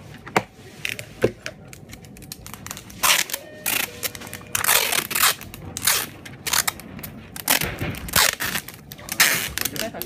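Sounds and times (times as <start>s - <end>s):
bubble wrap crinkling: 0.8s - 10.0s.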